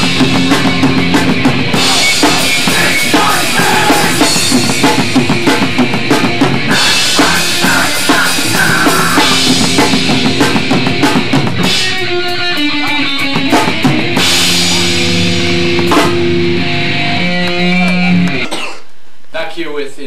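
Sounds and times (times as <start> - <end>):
drum kit: 0.0 - 18.7
electric guitar: 0.0 - 18.9.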